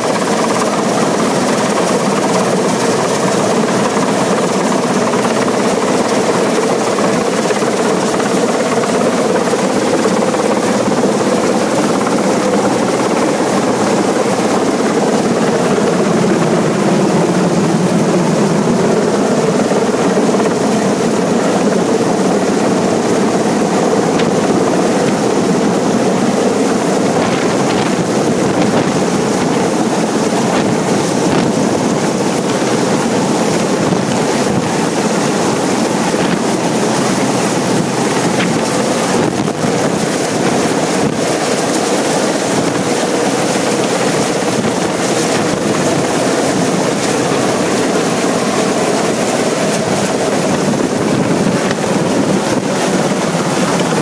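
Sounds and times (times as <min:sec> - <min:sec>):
helicopter hovering: 0:00.0 - 0:54.0.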